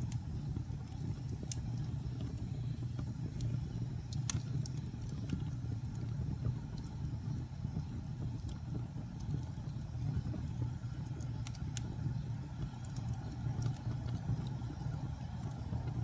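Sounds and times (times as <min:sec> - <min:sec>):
fire crackling: 0:00.0 - 0:16.0
low rumble of flames: 0:00.0 - 0:16.0.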